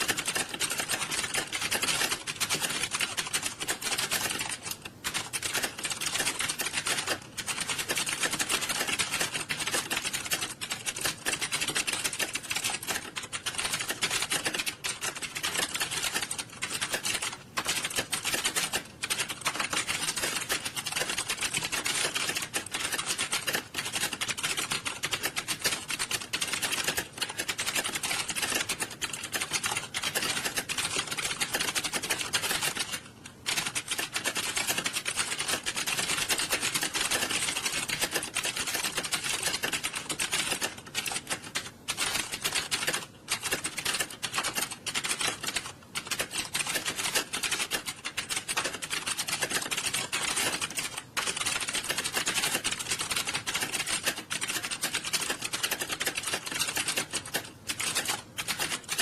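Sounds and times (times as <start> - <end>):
clatter of keyboard keystrokes: 0.0 - 59.0.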